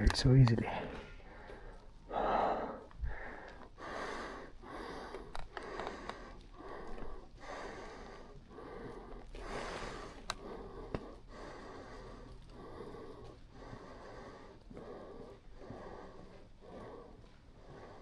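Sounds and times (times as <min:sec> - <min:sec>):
man breathing heavily: 0:00.7 - 0:18.0.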